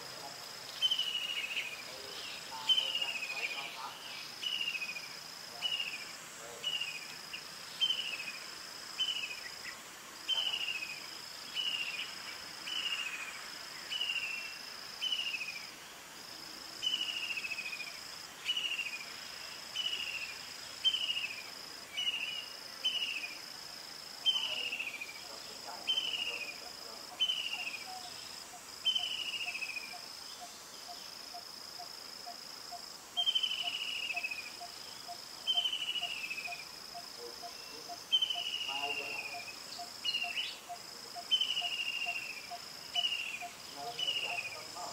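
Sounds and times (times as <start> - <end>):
falling insect chirp: 0.0 - 44.9.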